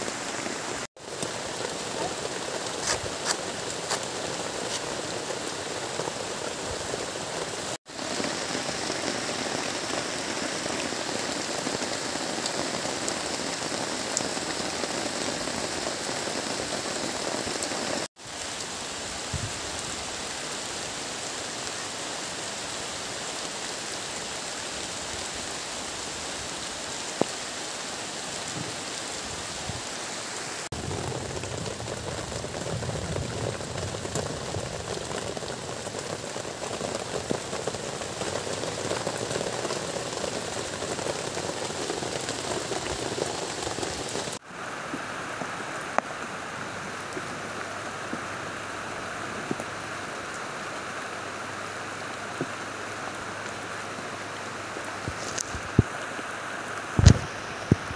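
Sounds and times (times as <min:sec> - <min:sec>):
heavy rain falling: 0:00.0 - 0:57.9
rain on plastic tarp: 0:00.0 - 0:57.9.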